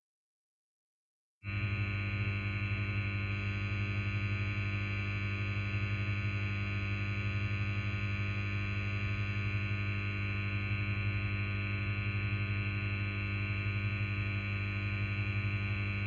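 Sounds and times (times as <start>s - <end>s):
amplifier mains hum: 1.5s - 16.0s.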